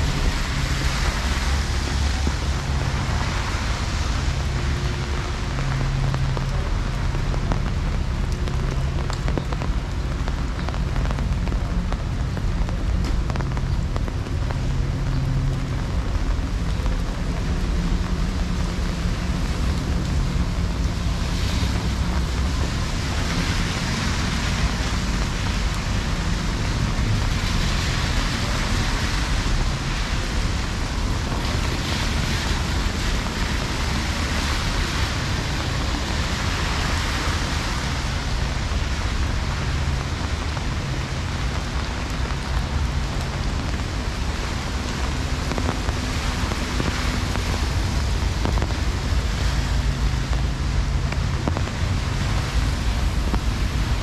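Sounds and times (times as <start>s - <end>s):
heavy rain on pavement: 0.0s - 54.0s
low rumble: 0.0s - 54.0s.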